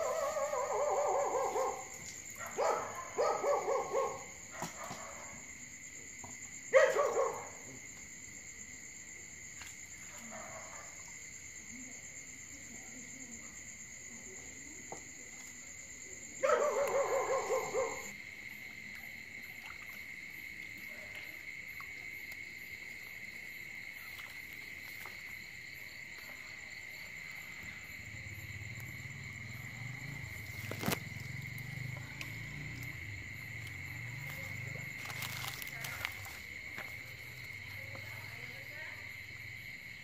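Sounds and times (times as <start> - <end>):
crickets and insects trilling: 0.0 - 40.0.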